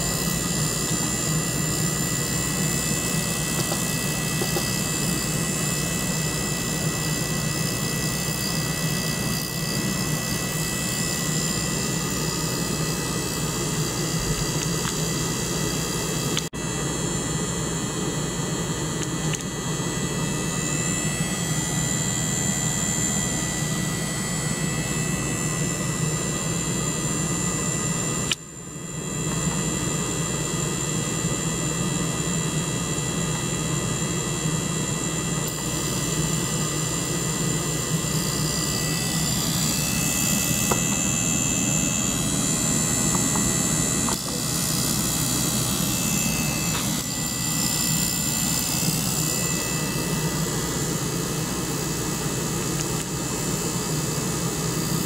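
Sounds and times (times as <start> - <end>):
pump mechanical hum: 0.0 - 55.0.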